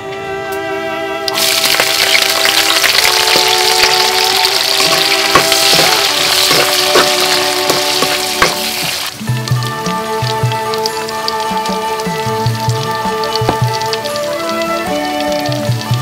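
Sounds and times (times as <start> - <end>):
soft background music: 0.0 - 16.0
onions sizzling in a pot: 1.3 - 16.0.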